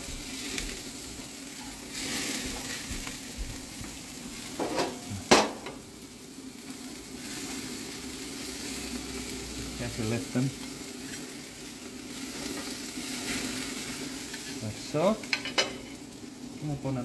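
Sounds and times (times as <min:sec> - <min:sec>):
burgers sizzling on grill: 0:00.0 - 0:17.0.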